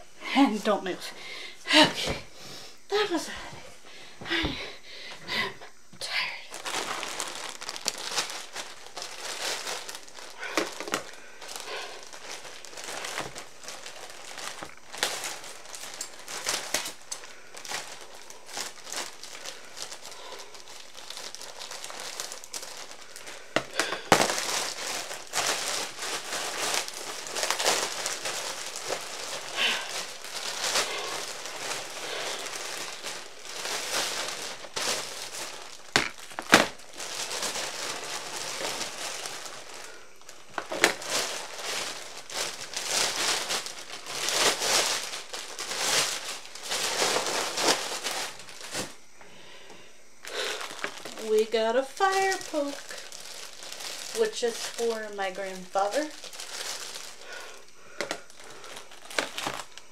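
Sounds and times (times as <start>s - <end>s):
plastic bag crinkling: 2.8s - 59.9s.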